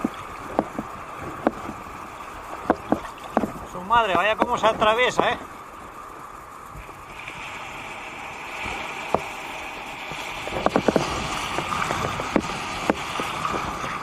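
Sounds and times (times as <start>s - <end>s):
small waves washing in: 0.0s - 14.0s.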